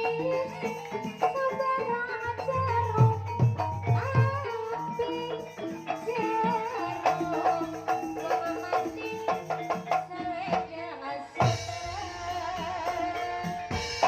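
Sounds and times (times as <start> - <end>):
sustained tuned percussion notes: 0.0 - 14.0.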